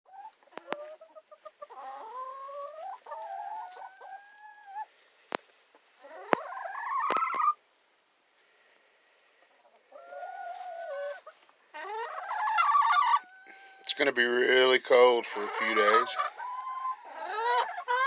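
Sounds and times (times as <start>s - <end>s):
hens clucking and calling: 0.1s - 7.6s, 9.4s - 18.0s.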